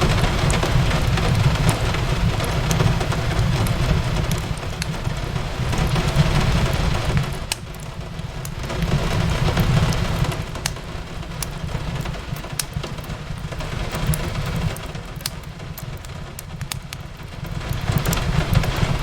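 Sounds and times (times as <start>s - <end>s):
rain on a window: 0.0s - 19.0s
wood fire crackling and popping: 0.0s - 19.0s.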